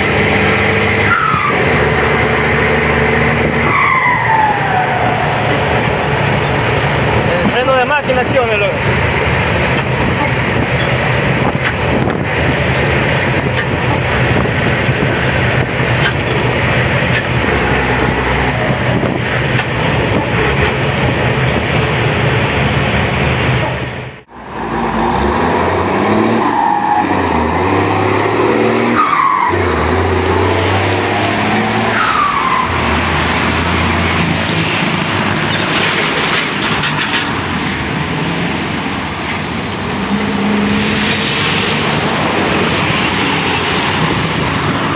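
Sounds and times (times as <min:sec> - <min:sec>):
diesel engine with engine brake: 0:00.0 - 0:44.9.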